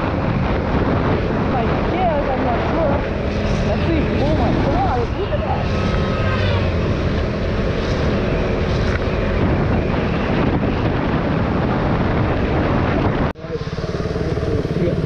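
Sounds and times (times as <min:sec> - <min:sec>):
motorcycle engine running: 0:00.0 - 0:15.0
wind rush: 0:00.0 - 0:15.0.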